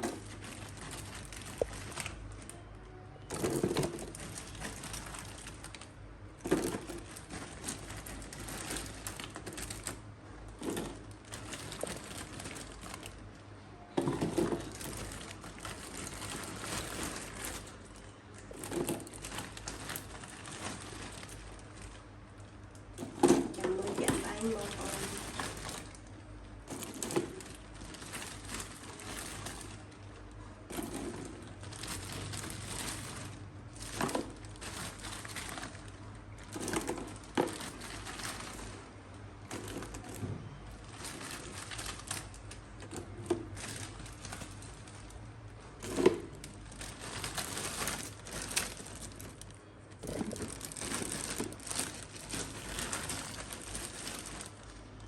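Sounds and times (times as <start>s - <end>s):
clicks and rustling of small objects: 0.0s - 55.0s.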